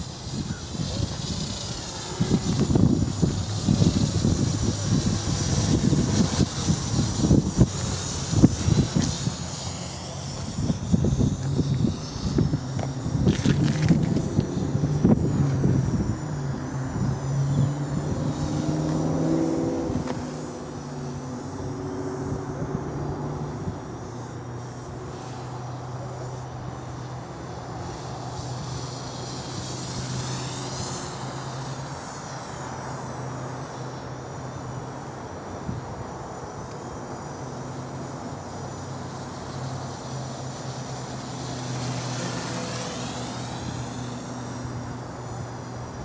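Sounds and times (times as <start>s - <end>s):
quadcopter propellers buzzing: 0.0s - 46.0s.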